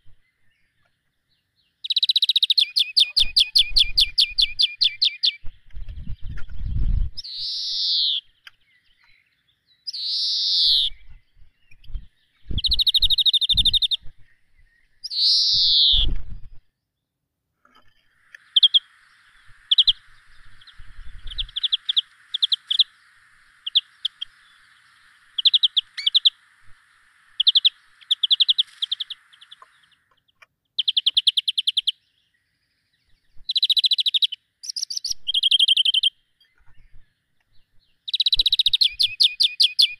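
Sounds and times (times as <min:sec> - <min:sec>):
faint steady hiss: 0:00.0 - 0:39.9
small birds calling: 0:00.0 - 0:39.9.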